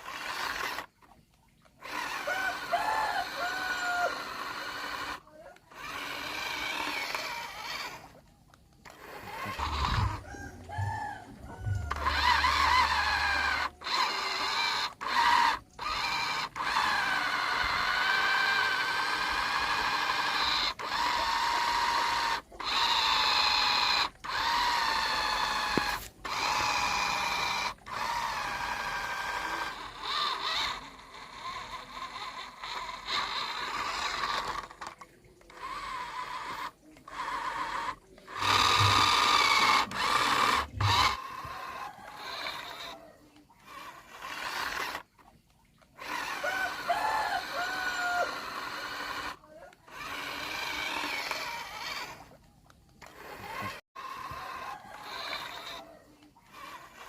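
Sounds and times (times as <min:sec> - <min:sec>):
toy truck electric motor whining: 0:00.0 - 0:57.0.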